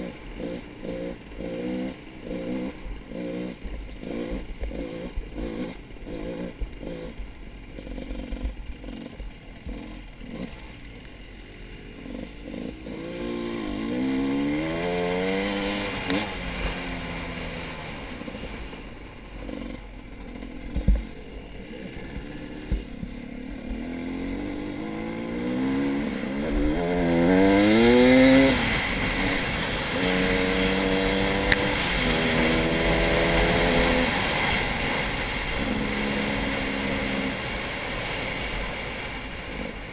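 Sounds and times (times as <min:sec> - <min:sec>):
engine revving: 0:00.0 - 0:07.2, 0:12.0 - 0:18.8, 0:19.4 - 0:38.5.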